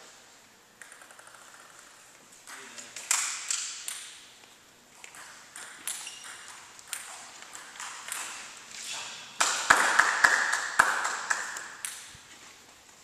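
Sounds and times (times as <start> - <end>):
table tennis balls clicking: 0.8 - 8.6, 9.4 - 12.2.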